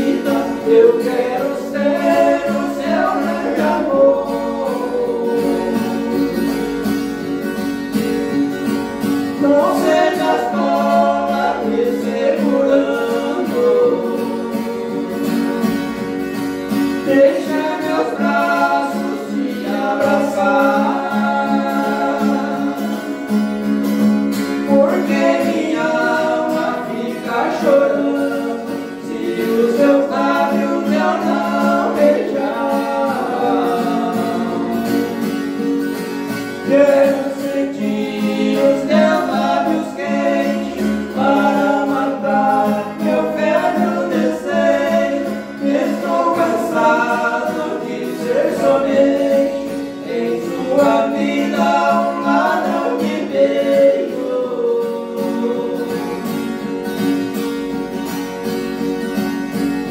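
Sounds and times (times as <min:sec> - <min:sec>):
men singing a waltz in harmony: 0:00.0 - 0:07.0, 0:09.0 - 0:16.0, 0:16.7 - 0:23.6, 0:24.5 - 0:35.7, 0:36.3 - 0:56.6
strummed acoustic guitar: 0:00.0 - 0:59.9.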